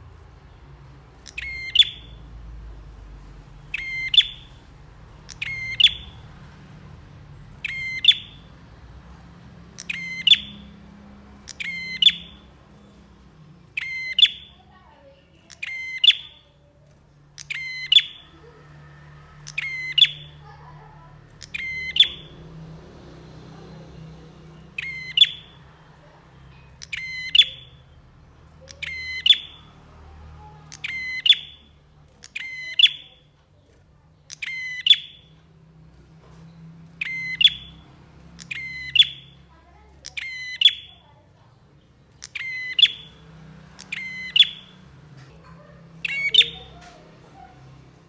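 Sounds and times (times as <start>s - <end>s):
songbird chattering: 0.0s - 48.0s.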